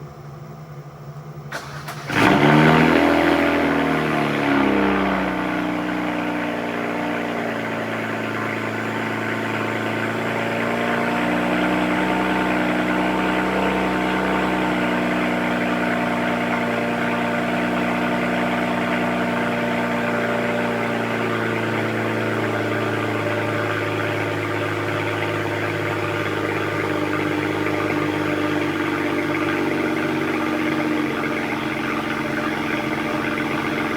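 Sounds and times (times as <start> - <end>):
car engine cold start and idle: 0.0 - 33.9.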